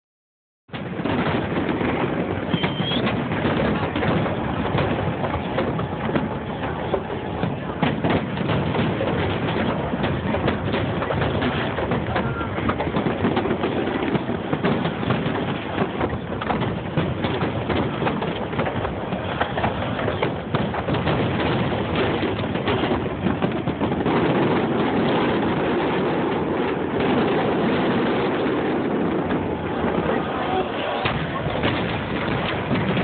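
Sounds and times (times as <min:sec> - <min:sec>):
fireworks bangs and crackling: 0:00.7 - 0:33.0
rush of noise: 0:00.7 - 0:33.0.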